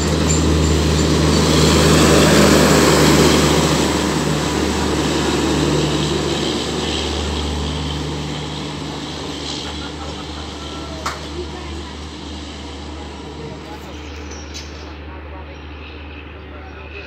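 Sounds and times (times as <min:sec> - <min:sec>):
train wheels rumbling on rail: 0:00.0 - 0:16.5.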